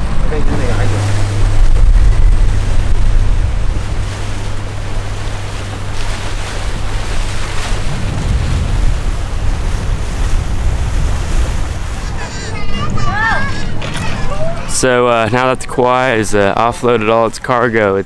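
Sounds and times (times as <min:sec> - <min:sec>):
wind buffeting microphone: 0:00.0 - 0:16.3
motorboat engine drone: 0:00.0 - 0:18.0
water rushing past hull: 0:00.0 - 0:18.0.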